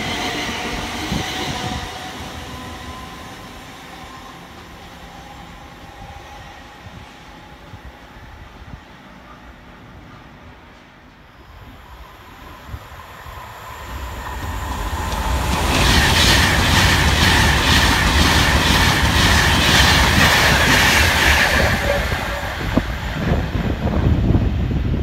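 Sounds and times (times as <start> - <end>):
train passing at speed: 0.0 - 25.0.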